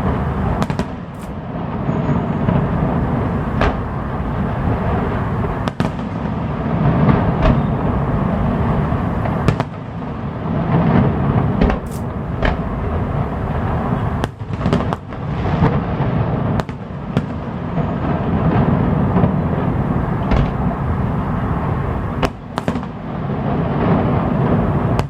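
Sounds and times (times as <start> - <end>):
low rumble of fireworks bursts: 0.0 - 25.0
sharp firework bangs: 0.0 - 25.0.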